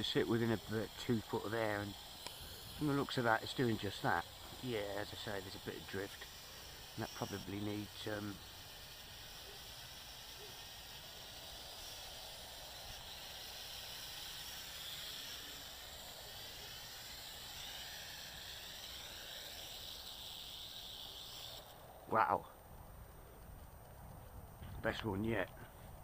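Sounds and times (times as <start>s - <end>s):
quadcopter propellers whining: 0.0s - 22.4s.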